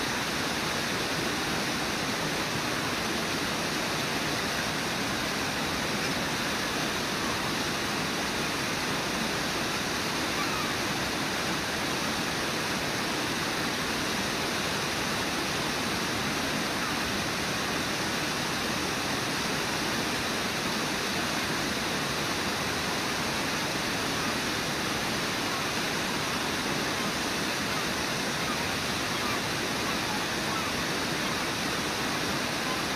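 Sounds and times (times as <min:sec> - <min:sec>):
waterfall and rapids rushing: 0:00.0 - 0:32.9.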